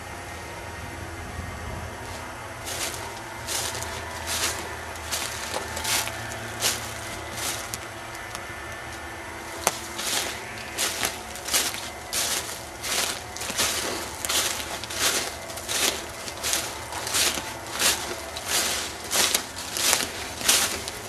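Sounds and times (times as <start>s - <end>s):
steady low hum: 0.0s - 21.0s
footsteps crunching on leaves: 2.0s - 21.0s.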